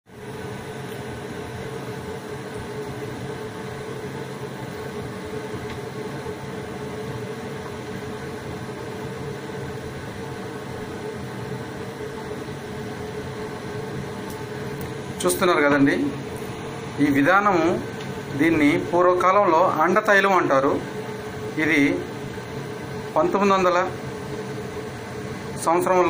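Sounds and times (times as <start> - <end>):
mechanical hum: 0.1 - 26.0.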